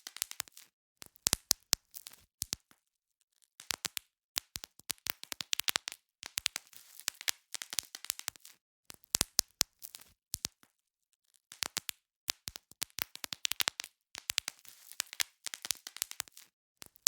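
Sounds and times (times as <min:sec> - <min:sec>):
bubble wrap popping: 0:00.0 - 0:02.7, 0:03.6 - 0:10.7, 0:11.5 - 0:17.0.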